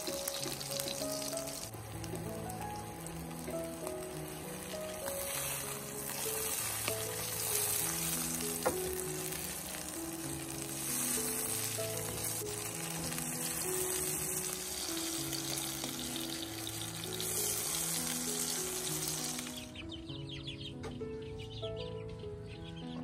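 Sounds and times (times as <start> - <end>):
food sizzling in hot oil: 0.0 - 19.8
soft background music: 0.0 - 23.0.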